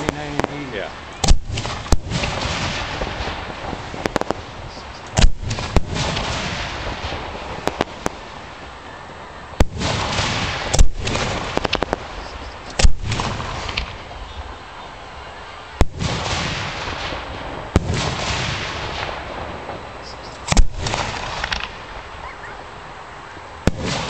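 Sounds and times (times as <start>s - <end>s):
fireworks shells booming: 0.0s - 15.0s, 15.7s - 22.2s, 23.4s - 24.0s
steady rushing noise: 0.0s - 24.0s.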